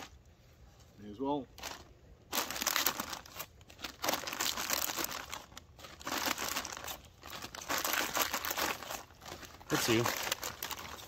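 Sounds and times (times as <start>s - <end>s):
wrapping crinkling: 1.6s - 11.0s.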